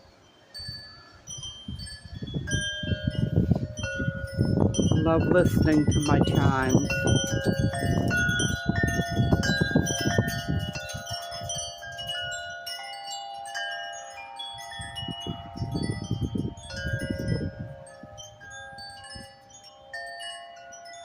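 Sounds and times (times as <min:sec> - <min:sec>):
wind rumble on microphone: 0:00.0 - 0:12.9, 0:14.4 - 0:21.0
wind chimes ringing: 0:00.0 - 0:21.0.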